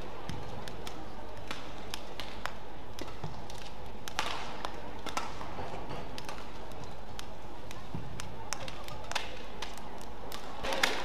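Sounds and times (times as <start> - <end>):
rackets striking shuttlecock: 0.0 - 11.0.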